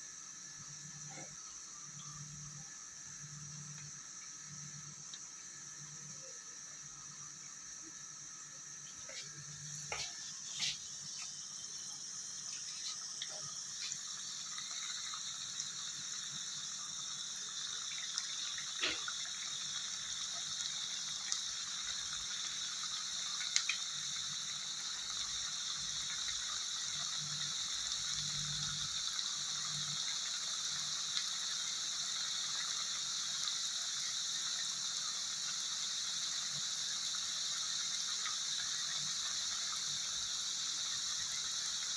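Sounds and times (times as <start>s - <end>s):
patties sizzling in hot oil: 0.0s - 41.9s.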